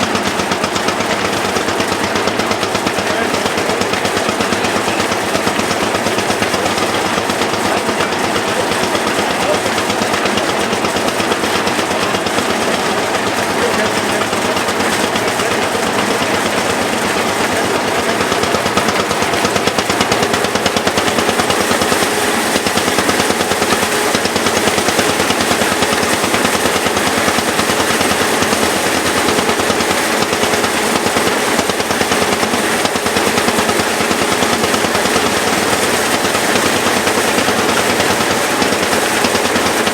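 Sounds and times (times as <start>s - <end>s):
engine knocking beat: 0.0s - 39.9s
threshing machine hum: 0.0s - 39.9s.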